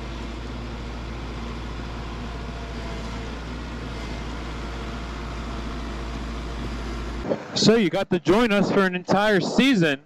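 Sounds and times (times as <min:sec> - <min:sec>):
tractor engine running: 0:00.0 - 0:09.9.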